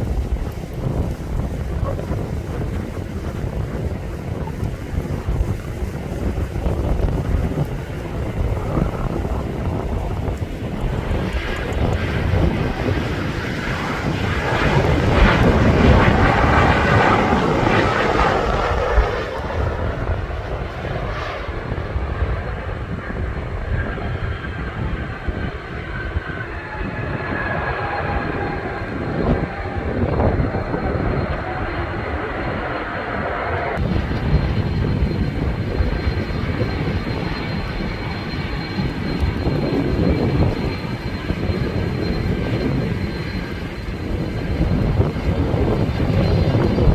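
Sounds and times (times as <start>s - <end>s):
faint jet engine whine: 0.0s - 46.9s
jet engines rumbling: 0.0s - 46.9s.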